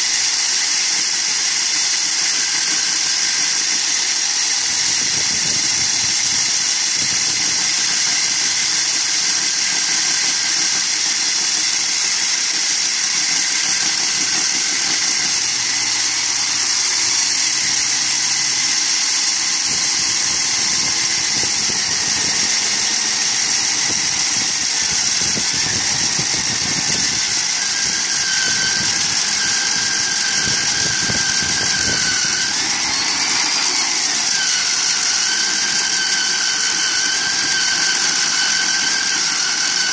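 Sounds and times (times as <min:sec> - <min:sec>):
core drill grinding concrete: 0:00.0 - 0:39.9
thin squealing tone: 0:02.2 - 0:39.9.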